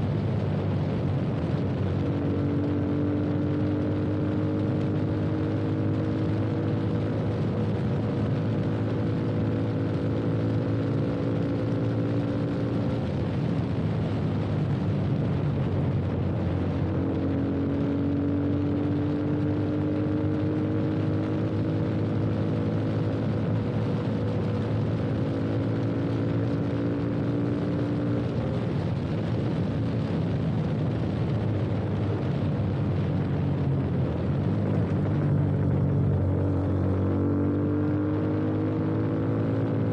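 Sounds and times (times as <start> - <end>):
wind and road noise: 0.0 - 39.9
motorcycle engine revving: 1.9 - 14.7, 16.6 - 31.3, 31.9 - 39.9.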